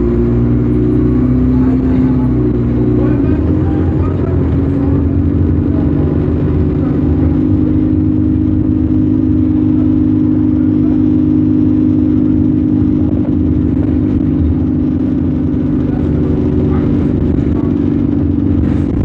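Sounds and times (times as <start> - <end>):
bus engine drone: 0.0 - 19.0
road rumble: 0.0 - 19.0.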